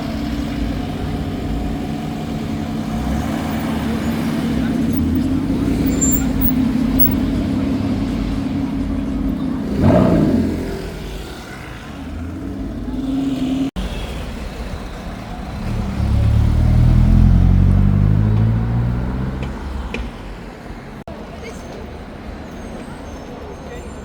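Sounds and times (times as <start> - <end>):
car engine accelerating past: 0.0 - 14.1, 14.7 - 20.0.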